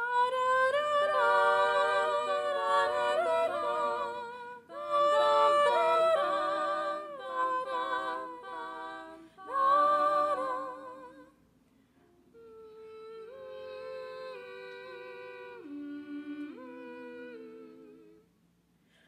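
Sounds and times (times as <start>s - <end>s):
girl singing a cappella harmony: 0.0s - 11.4s, 12.4s - 18.3s.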